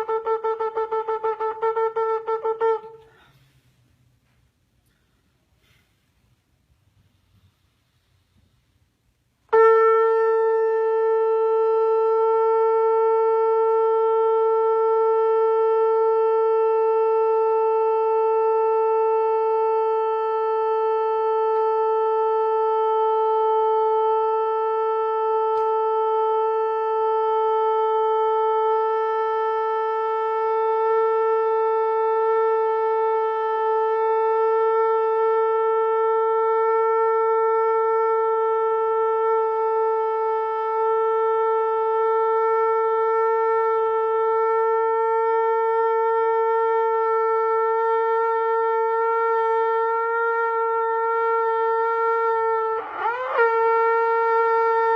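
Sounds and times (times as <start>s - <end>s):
shofar long note: 0.0s - 54.9s.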